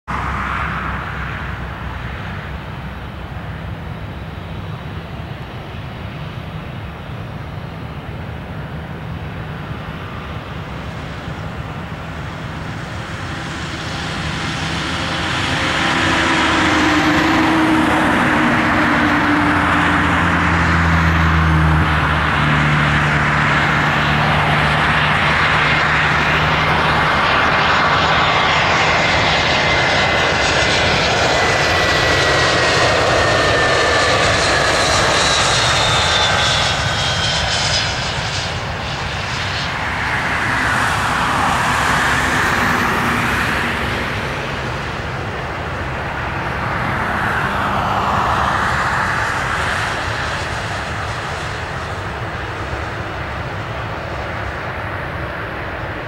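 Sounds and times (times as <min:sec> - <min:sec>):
jet airliner engines rushing: 0:00.1 - 0:56.0.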